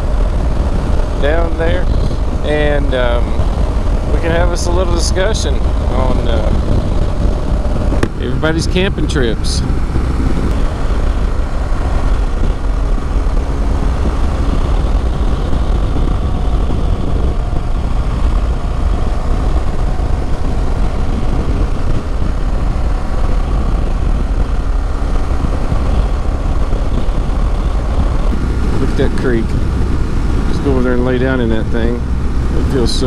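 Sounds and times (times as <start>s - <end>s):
motorcycle engine cruising: 0.0s - 33.0s
wind rush and road noise: 0.0s - 33.0s.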